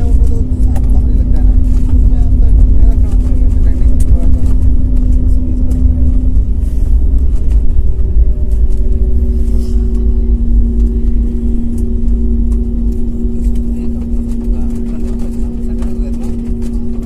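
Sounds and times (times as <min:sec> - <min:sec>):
jet engine hum: 0:00.0 - 0:17.0
wheels rumbling on tarmac: 0:00.0 - 0:17.0.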